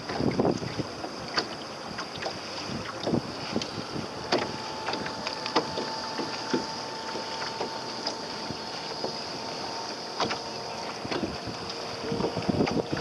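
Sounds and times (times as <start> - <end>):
waves slapping a boat hull: 0.0 - 13.0.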